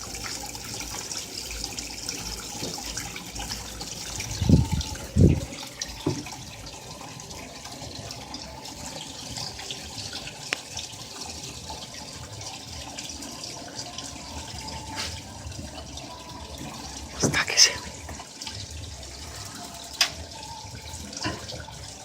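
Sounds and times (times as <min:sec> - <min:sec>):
water sloshing in washing machine: 0:00.0 - 0:22.0.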